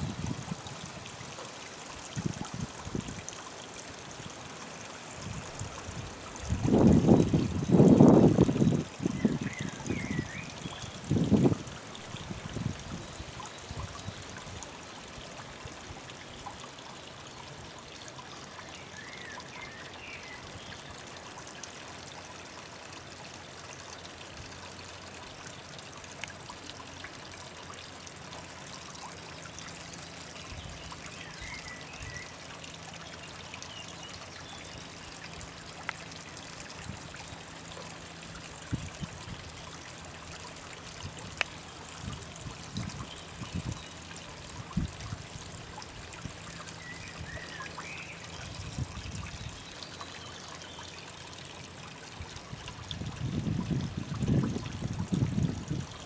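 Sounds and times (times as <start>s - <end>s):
waterfall trickling into pond: 0.0s - 56.0s.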